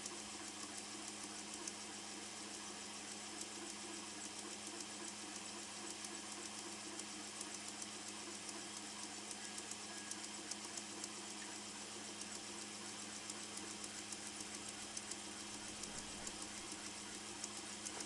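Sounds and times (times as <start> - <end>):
light ticks: 0.0 - 1.8, 2.5 - 18.0
laser engraver humming: 0.0 - 18.0.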